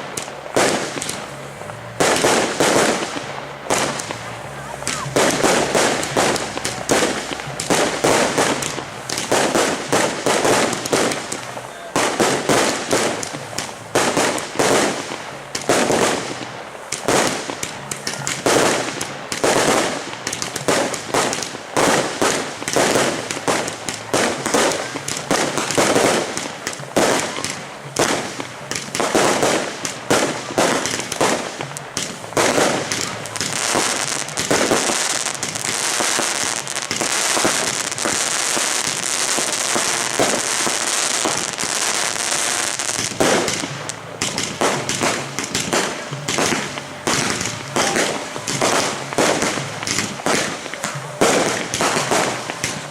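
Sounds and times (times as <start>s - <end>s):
firework bangs: 0.0s - 52.9s
firework crackling: 0.0s - 52.9s.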